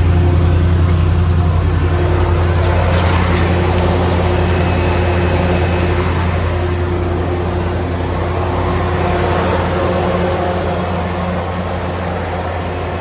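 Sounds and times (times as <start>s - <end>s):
engine idling: 0.0s - 13.0s
exhaust leak: 0.0s - 13.0s.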